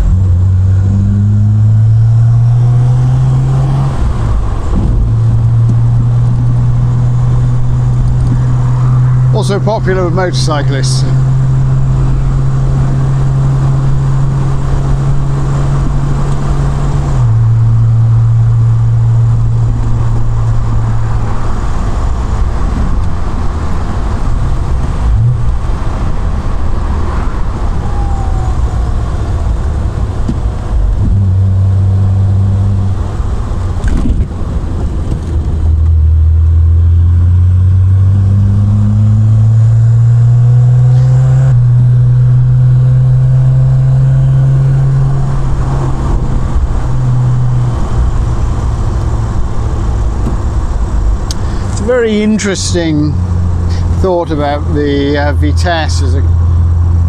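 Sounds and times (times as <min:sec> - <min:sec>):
car engine running: 0:00.0 - 0:57.0
wind and road noise: 0:00.0 - 0:57.0.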